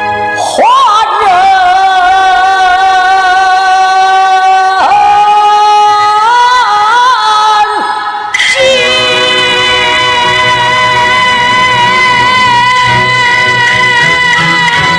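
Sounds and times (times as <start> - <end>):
woman singing opera: 0.0 - 14.9.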